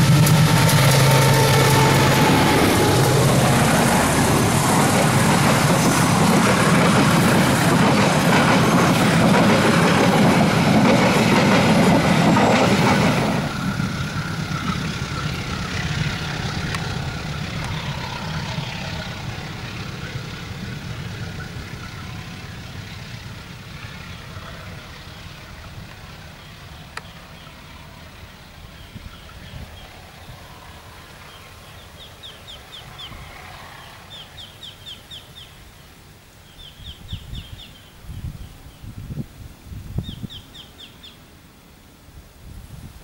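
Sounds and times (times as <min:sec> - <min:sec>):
train wheels on rails: 0:00.0 - 0:37.9.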